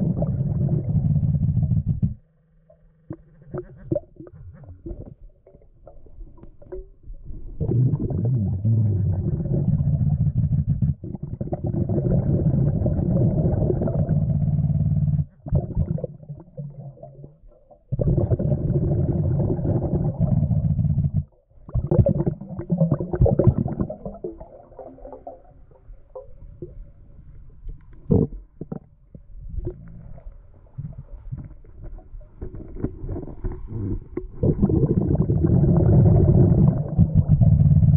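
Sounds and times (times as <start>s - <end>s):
underwater air bubbles rumbling: 0.0s - 37.9s.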